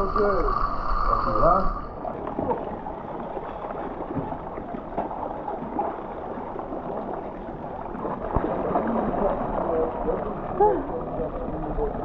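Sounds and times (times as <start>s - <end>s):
water gurgling and lapping: 0.0s - 12.0s.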